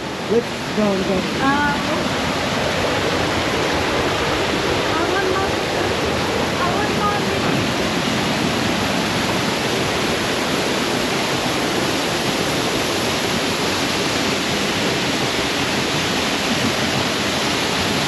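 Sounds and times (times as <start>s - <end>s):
fast river flowing: 0.0s - 18.0s
waterfall rushing: 0.0s - 18.0s.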